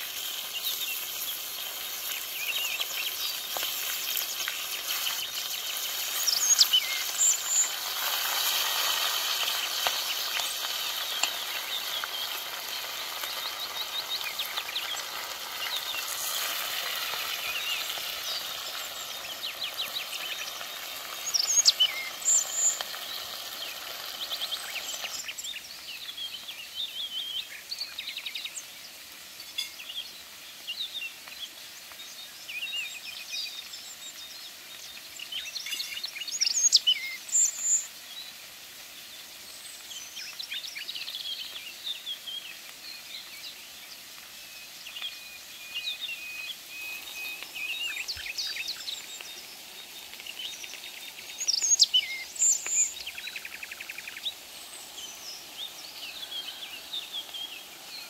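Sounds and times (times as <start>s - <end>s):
birds chirping: 0.0s - 38.4s, 39.1s - 58.0s
fish sizzling in oil: 0.0s - 58.0s.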